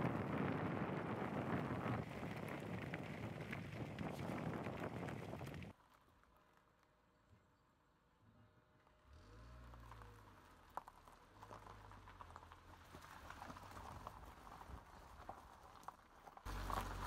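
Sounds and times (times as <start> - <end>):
tyres crackling over gravel: 0.0 - 6.9, 9.7 - 17.0.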